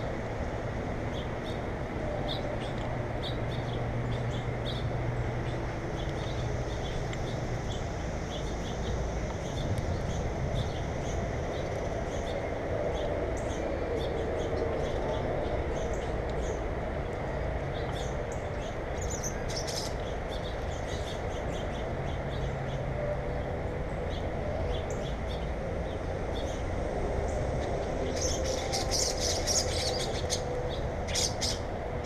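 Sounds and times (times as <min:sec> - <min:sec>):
songbirds chirping: 0:00.0 - 0:32.0
steady low rumble: 0:00.0 - 0:32.0.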